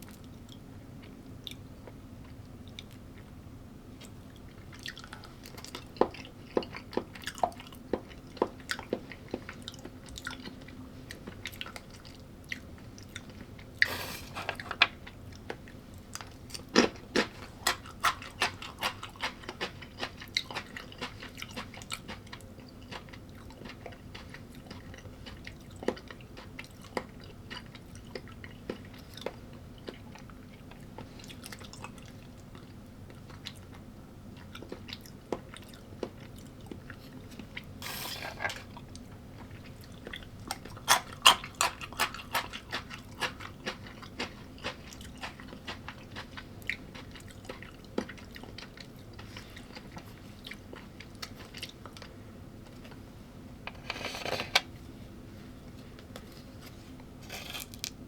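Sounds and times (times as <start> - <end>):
person chewing crunchy food: 4.0 - 52.2, 56.1 - 58.0.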